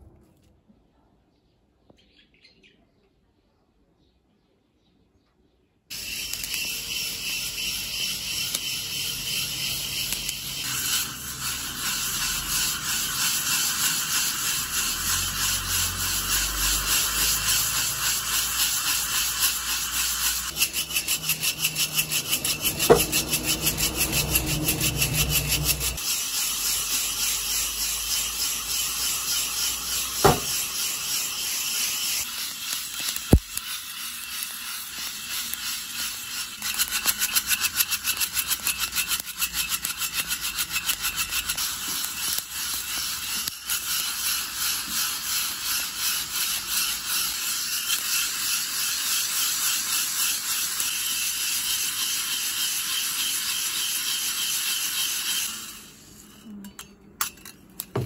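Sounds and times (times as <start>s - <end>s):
coffee beans rattling in mesh roaster: 5.9s - 56.4s.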